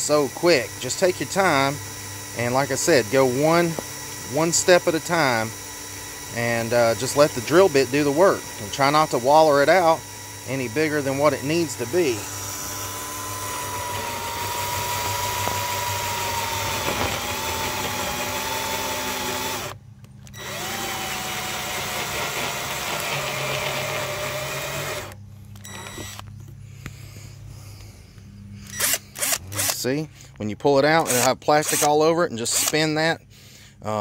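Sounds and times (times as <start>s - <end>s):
drill bit cutting plastic: 0.0s - 26.2s, 28.7s - 29.8s, 30.9s - 32.9s
cordless drill whining: 0.0s - 26.9s, 28.6s - 33.1s.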